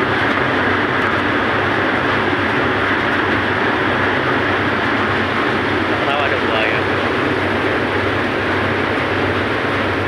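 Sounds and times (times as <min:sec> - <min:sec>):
constant rushing noise: 0:00.0 - 0:10.0
diesel engine humming: 0:00.0 - 0:10.0.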